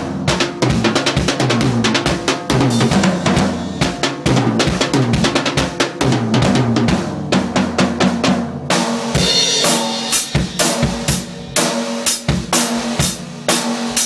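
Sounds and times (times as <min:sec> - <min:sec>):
drum kit solo: 0:00.0 - 0:14.0.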